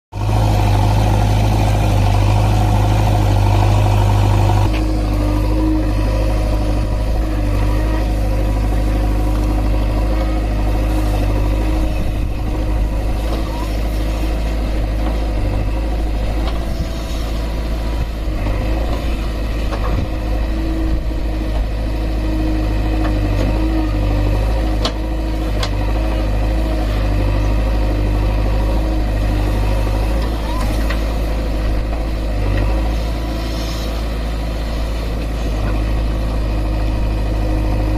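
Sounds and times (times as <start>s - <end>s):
backhoe diesel engine running: 0.1s - 37.9s.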